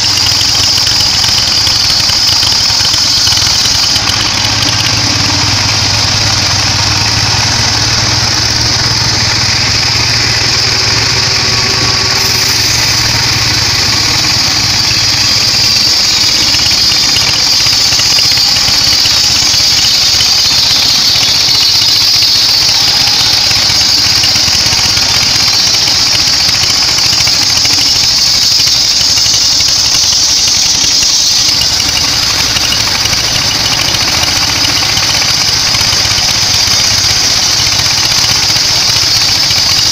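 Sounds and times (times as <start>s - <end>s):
band saw blade whine: 0.0s - 39.9s.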